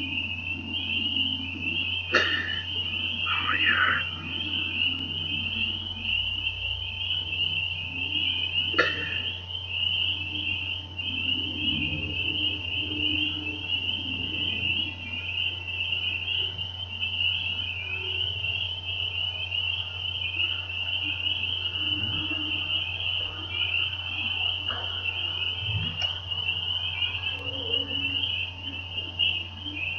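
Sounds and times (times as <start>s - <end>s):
frogs trilling chorus: 0.0s - 29.9s
low steady hum: 0.0s - 29.9s
lower frog calls: 0.0s - 29.9s.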